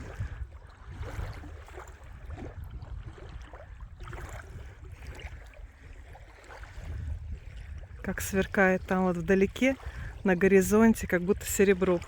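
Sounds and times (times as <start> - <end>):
lake water sloshing and splashing: 0.0 - 12.0
wind rumble on microphone: 0.0 - 12.0.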